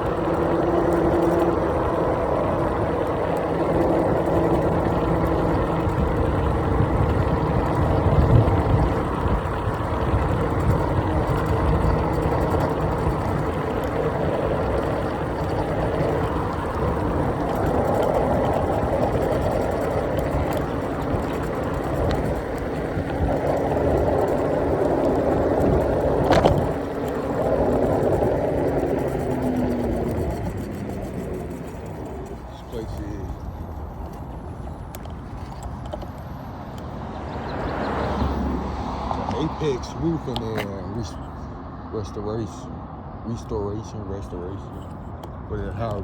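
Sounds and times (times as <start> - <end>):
road noise: 0.0 - 46.0
wind buffeting microphone: 0.0 - 46.0.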